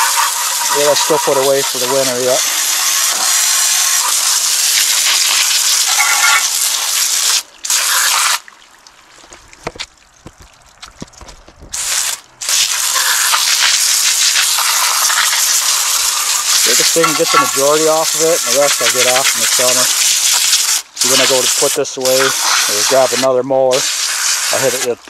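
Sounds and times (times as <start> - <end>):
hose nozzle spraying water: 0.0 - 8.5, 9.2 - 25.0.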